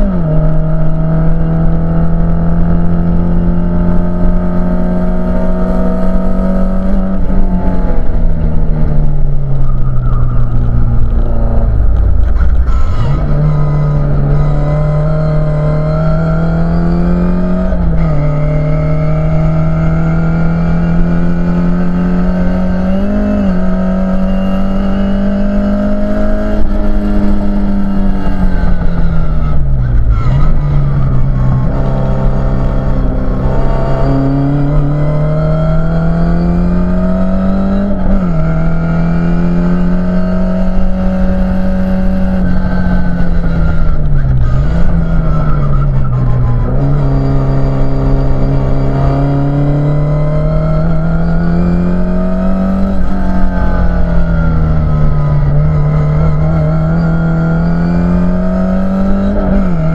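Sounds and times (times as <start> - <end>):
racing car engine from inside cabin: 0.0 - 59.9.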